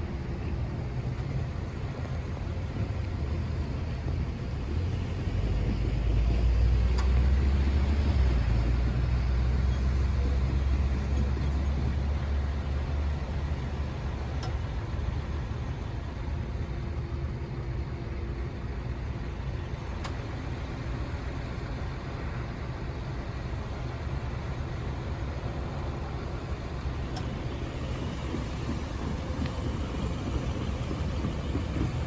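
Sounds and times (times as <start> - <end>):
diesel locomotive engine rumbling: 0.0 - 32.0.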